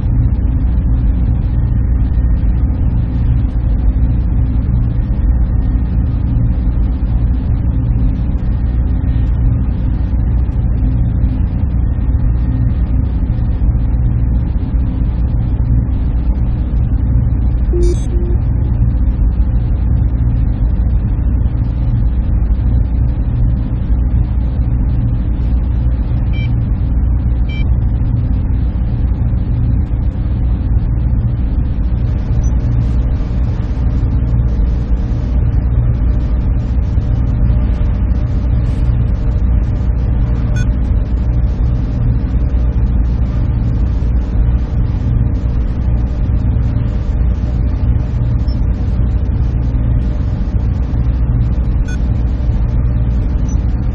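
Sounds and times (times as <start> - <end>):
server machinery low hum: 0.0 - 53.9.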